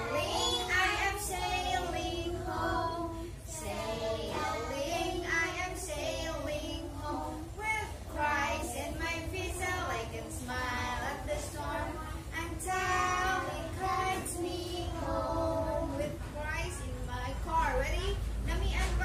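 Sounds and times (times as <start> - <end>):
children singing: 0.0 - 16.2
woman singing: 0.0 - 18.1
steady low hum: 0.0 - 19.0.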